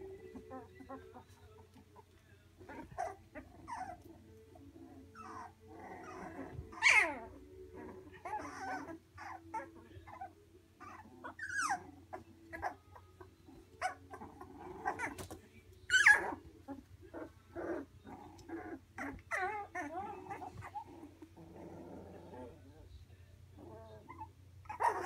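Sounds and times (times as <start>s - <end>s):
puppies barking and yipping: 0.2s - 21.4s, 23.9s - 25.0s.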